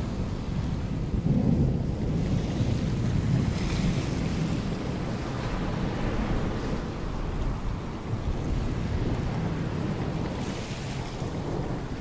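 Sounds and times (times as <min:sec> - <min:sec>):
wind rumble: 0:00.0 - 0:12.0
rough waves: 0:02.0 - 0:12.0.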